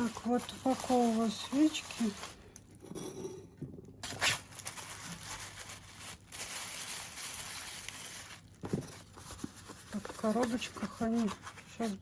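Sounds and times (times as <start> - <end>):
packaging rustling: 0.0 - 2.4, 4.0 - 12.0.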